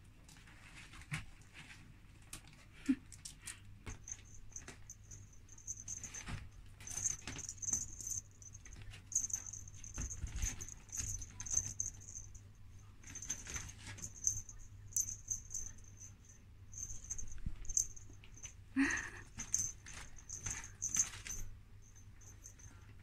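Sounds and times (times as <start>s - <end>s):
kittens scuffling and batting: 0.2s - 23.0s
thin high jingle: 4.0s - 23.0s.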